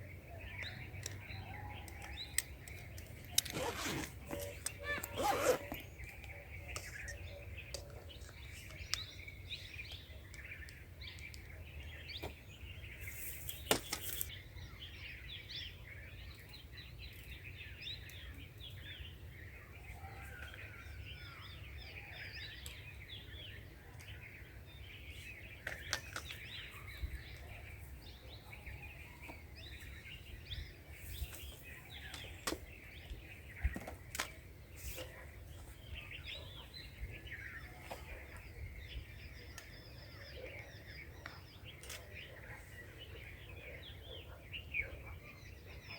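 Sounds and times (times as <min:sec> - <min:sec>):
birds chirping and singing: 0:00.0 - 0:45.9.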